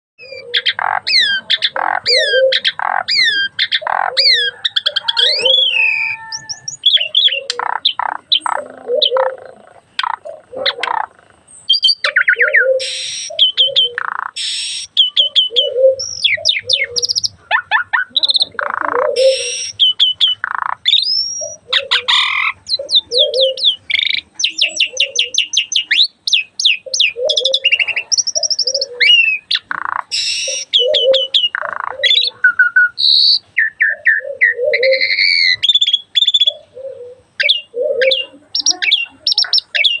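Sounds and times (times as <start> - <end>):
starling singing: 0.2 - 40.0.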